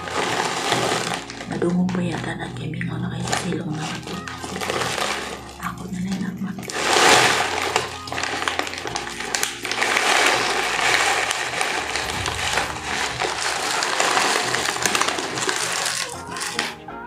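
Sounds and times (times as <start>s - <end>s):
potato chip bag crinkling: 0.0s - 16.8s.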